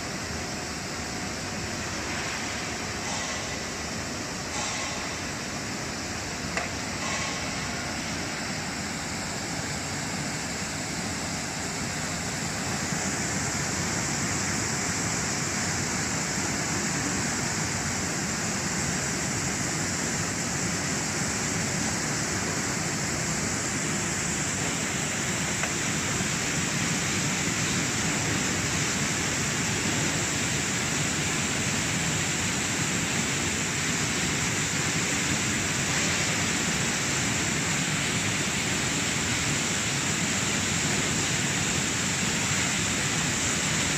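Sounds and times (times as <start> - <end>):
high hiss: 0.0 - 43.9.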